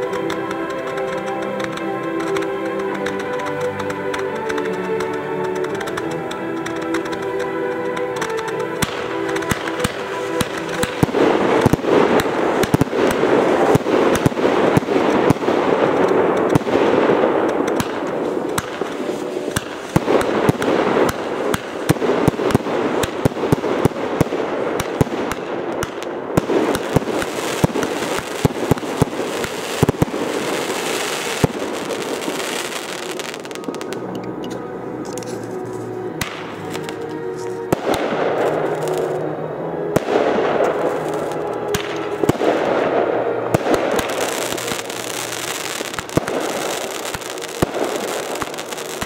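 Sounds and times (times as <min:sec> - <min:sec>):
firework bangs: 0:00.0 - 0:34.2, 0:35.1 - 0:49.0
firework crackling: 0:00.0 - 0:49.0.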